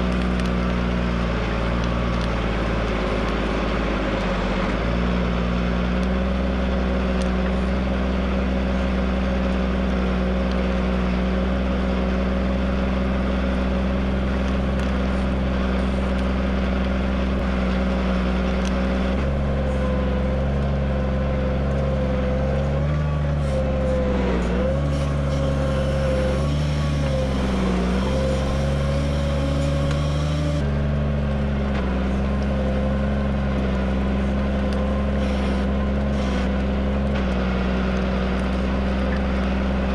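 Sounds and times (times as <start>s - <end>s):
tractor engine labouring: 0.0s - 39.9s.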